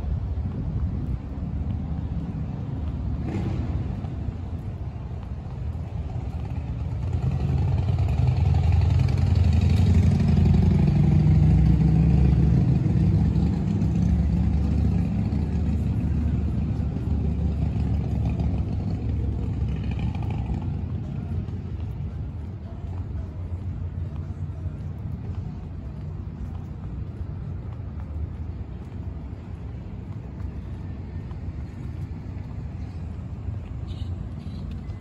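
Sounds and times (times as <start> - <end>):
vehicle passing: 0.0 - 35.0.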